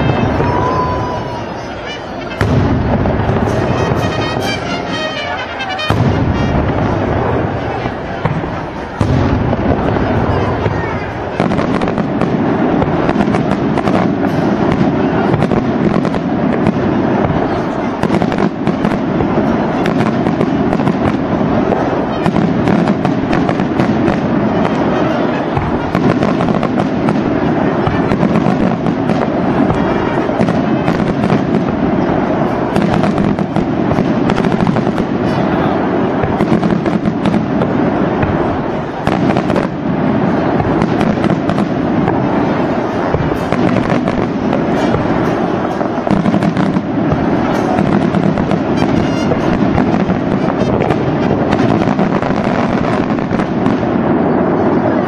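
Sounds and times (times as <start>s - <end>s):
firecrackers crackling: 0.0s - 55.0s.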